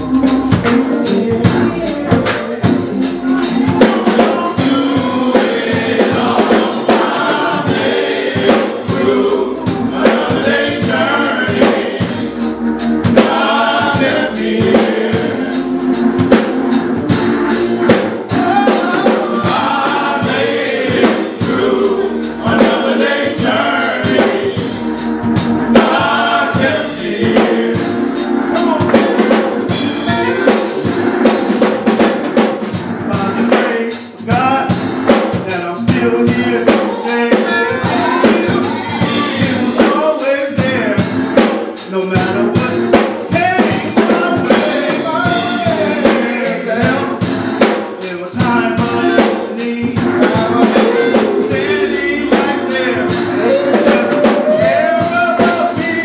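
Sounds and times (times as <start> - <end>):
drum kit playing: 0.0 - 56.0
men's choir singing: 0.0 - 56.0.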